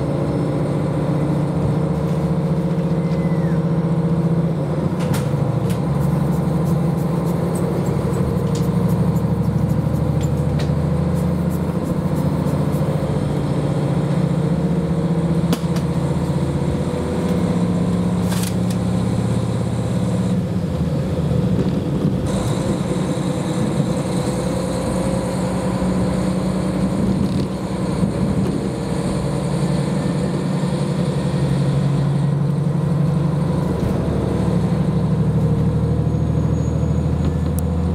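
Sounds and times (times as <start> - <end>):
diesel engine drone: 0.0 - 37.9
wheel and rail noise: 0.0 - 37.9.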